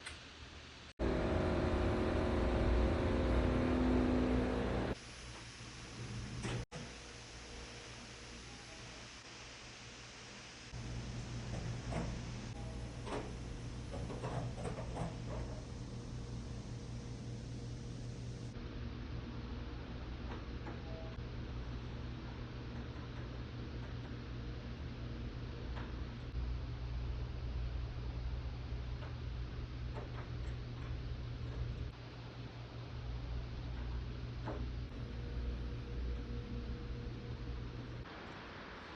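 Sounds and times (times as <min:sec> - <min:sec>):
air conditioner humming: 0:00.0 - 0:38.9.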